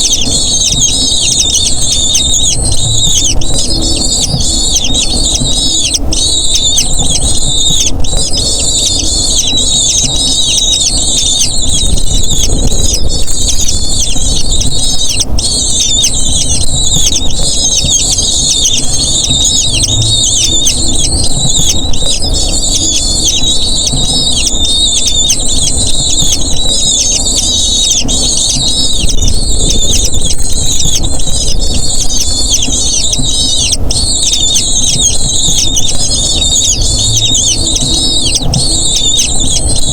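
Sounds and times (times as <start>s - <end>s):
eagle chicks squealing: 0.0s - 39.9s
steady low rumble: 0.0s - 39.9s.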